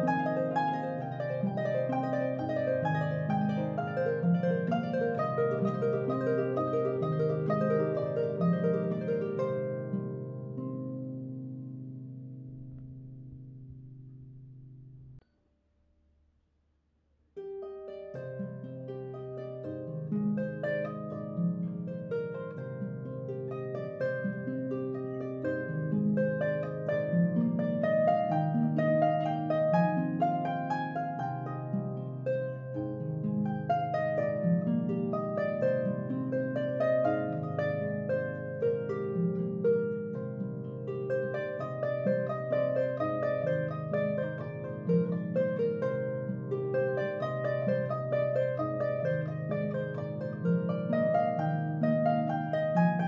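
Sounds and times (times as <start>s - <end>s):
harp music: 0.0s - 15.2s, 17.4s - 53.0s.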